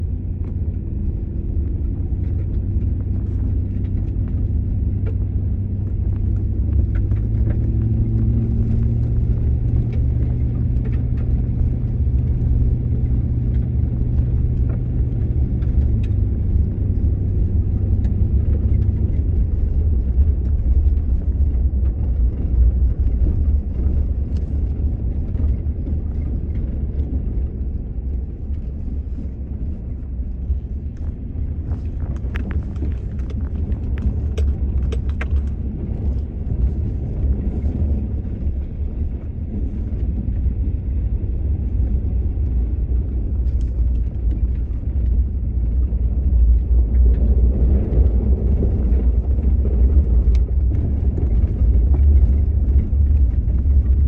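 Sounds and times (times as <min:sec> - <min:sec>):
droning hum: 0:00.0 - 0:54.0
vehicle engine and road rumble: 0:00.0 - 0:54.0.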